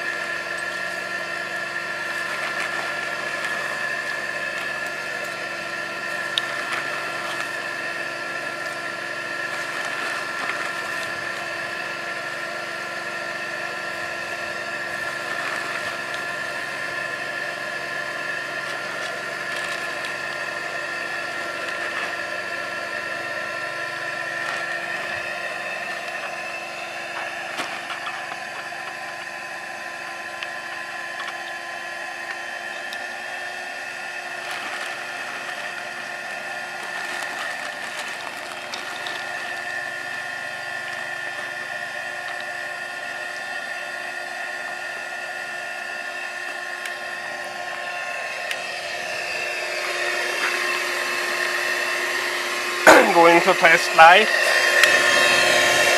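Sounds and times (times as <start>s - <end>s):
blower motor whining: 0.0s - 55.9s.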